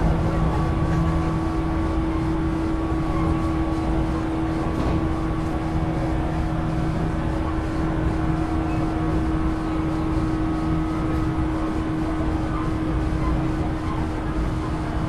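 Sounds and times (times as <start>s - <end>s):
train motor whine: 0.0s - 15.0s
wheels rumbling on rails: 0.0s - 15.0s.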